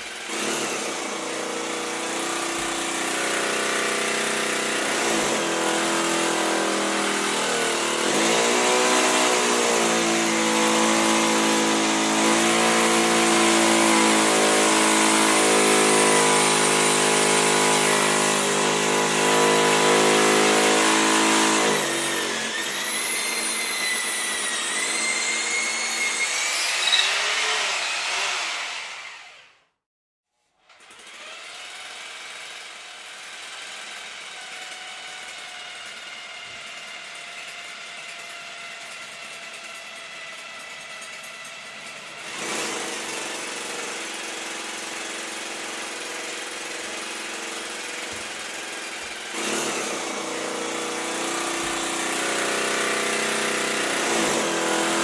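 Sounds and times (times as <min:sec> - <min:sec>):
hammer drill into concrete: 0:00.0 - 0:29.6, 0:30.7 - 0:55.0.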